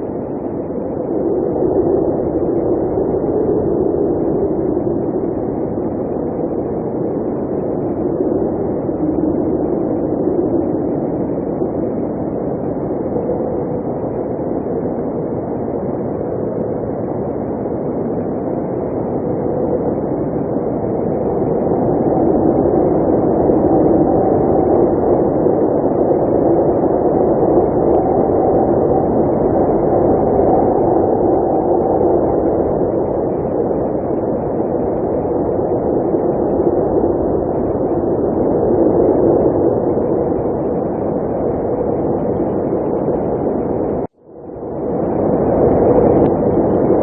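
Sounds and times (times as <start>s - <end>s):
blizzard wind roaring: 0.0s - 47.0s.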